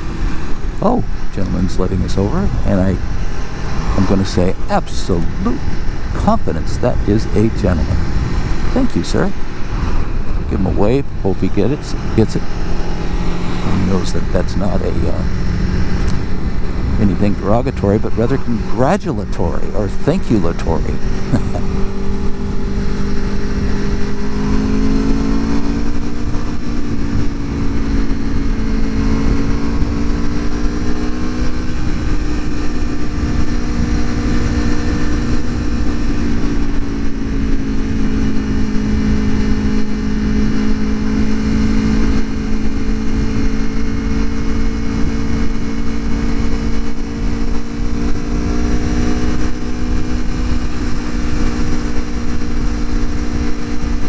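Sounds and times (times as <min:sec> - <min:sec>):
motorcycle engine cruising: 0:00.0 - 0:54.0
wind rush on microphone: 0:00.0 - 0:54.0.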